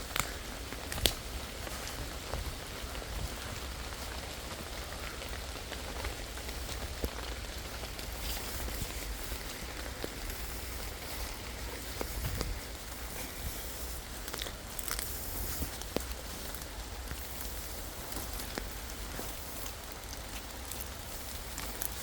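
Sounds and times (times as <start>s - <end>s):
rain pattering on leaves: 0.0s - 22.0s.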